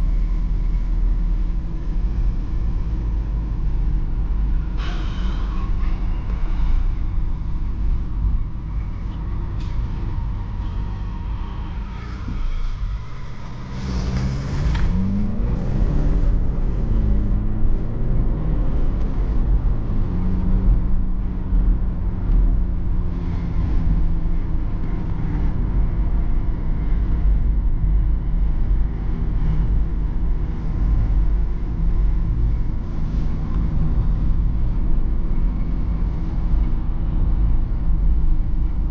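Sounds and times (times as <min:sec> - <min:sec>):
diesel engine drone in cabin: 0:00.0 - 0:38.9
road and tyre rumble: 0:00.0 - 0:38.9.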